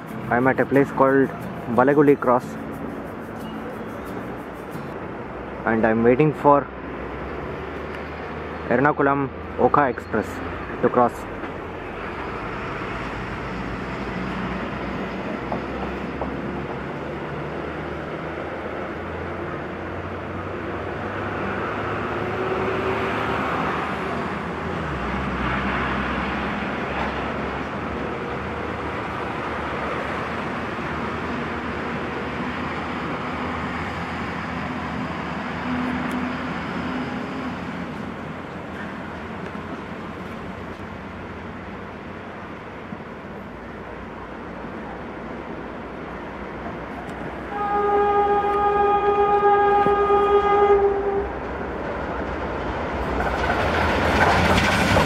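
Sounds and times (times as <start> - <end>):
distant diesel locomotive drone: 0.0 - 55.0.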